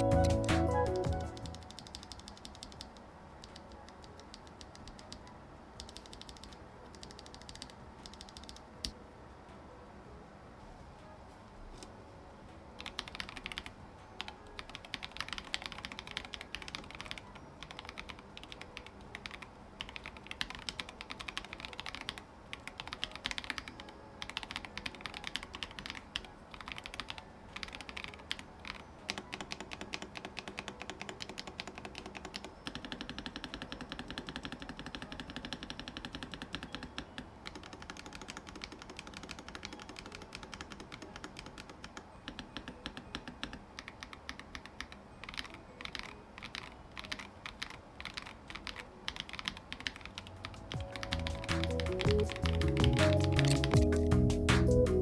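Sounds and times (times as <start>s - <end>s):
mechanical keyboard typing: 0.0s - 8.9s, 12.8s - 54.7s.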